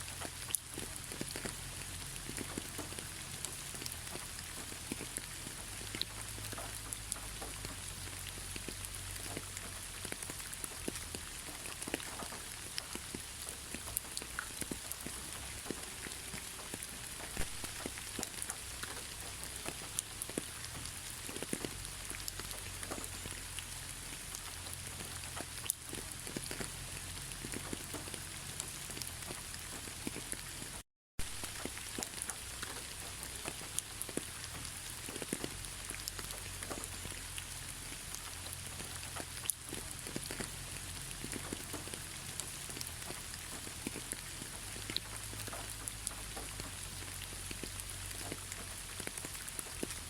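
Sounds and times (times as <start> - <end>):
rain pattering on hard surface: 0.0 - 50.0.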